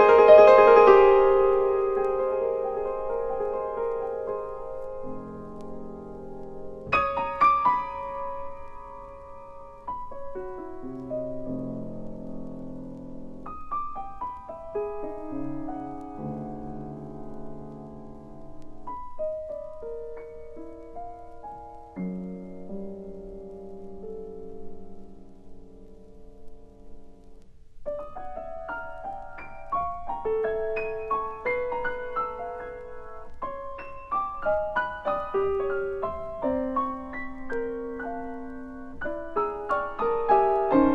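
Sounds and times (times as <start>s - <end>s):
slow solo piano piece: 0.0s - 40.9s.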